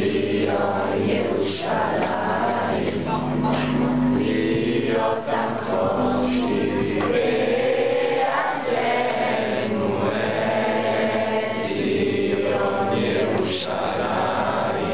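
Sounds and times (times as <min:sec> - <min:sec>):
group of young men singing: 0:00.0 - 0:14.9.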